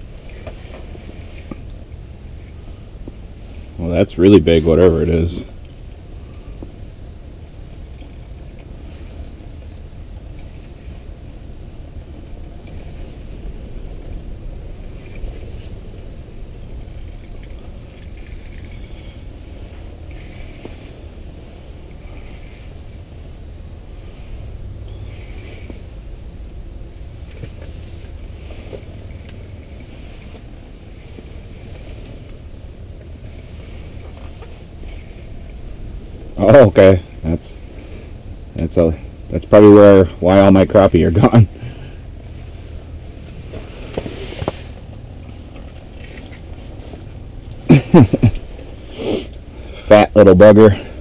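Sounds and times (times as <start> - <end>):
fishing reel rattling and clicking: 0.0 - 51.0
steady low rumble: 0.0 - 51.0.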